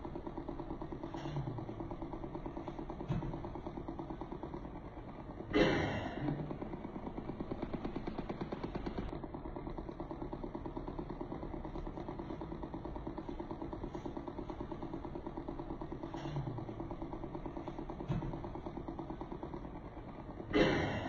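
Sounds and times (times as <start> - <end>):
massage gun pulsing: 0.0 - 21.0.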